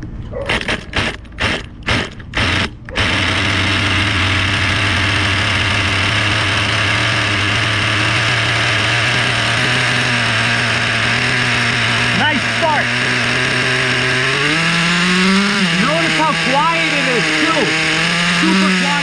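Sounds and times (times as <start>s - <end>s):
pull cord bursts: 0.4s - 19.0s
small engine idling: 0.5s - 19.0s.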